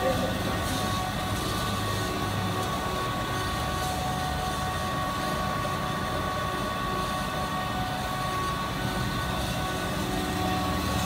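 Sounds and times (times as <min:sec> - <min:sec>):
high-pitched whine: 0:00.0 - 0:11.0
machinery low hum: 0:00.0 - 0:11.0.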